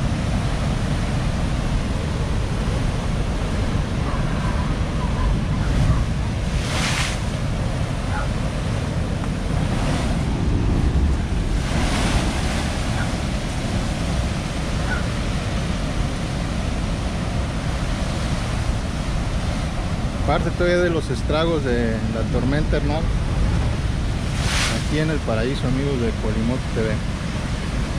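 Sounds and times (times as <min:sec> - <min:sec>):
waves crashing against seawall: 0:00.0 - 0:27.9
wind rumble on microphone: 0:00.0 - 0:27.9.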